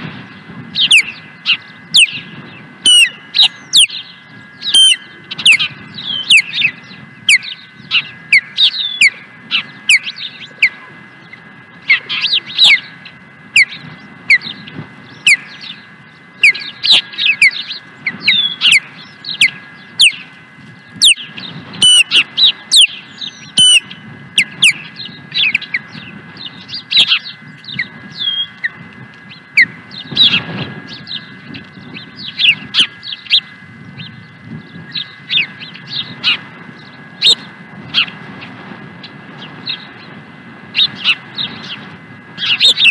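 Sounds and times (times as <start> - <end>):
faint steady whine: 0.0 - 42.9
ospreys calling: 0.0 - 42.9.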